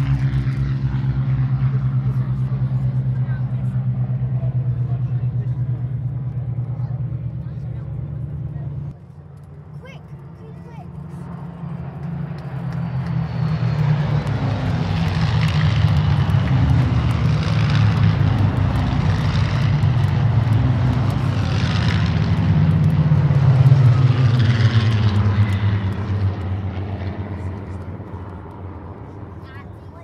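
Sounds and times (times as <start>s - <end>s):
propeller plane engines droning: 0.0s - 30.0s.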